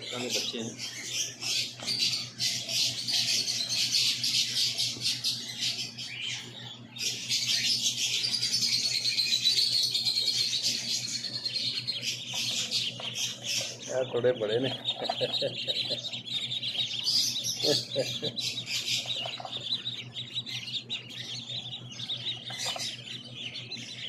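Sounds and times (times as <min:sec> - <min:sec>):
caged birds chirping: 0:00.0 - 0:24.0
steady low hum: 0:00.0 - 0:24.0.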